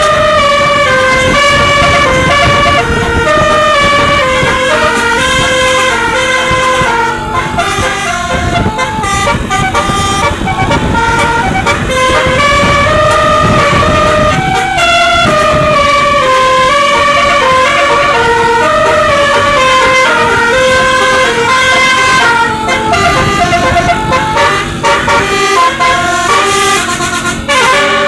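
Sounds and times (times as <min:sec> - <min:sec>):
low rumble: 0:00.0 - 0:25.5
musical bus horn playing a tune: 0:00.0 - 0:28.0.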